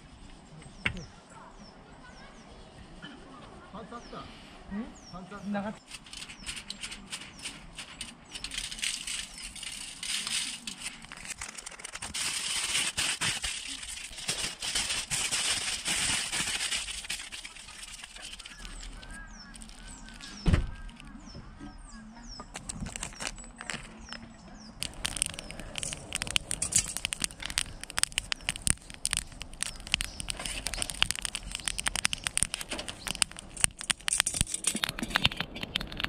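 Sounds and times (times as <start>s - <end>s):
aluminium foil crinkling: 5.8s - 21.3s, 22.4s - 36.0s.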